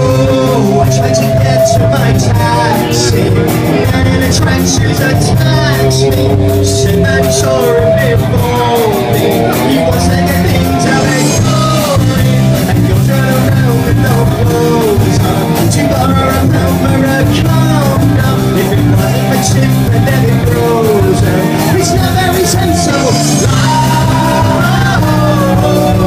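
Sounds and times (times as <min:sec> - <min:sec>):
bass guitar: 0:00.0 - 0:26.0
drum kit beat: 0:00.0 - 0:26.0
electric guitars: 0:00.0 - 0:26.0
man singing into microphone: 0:00.0 - 0:26.0.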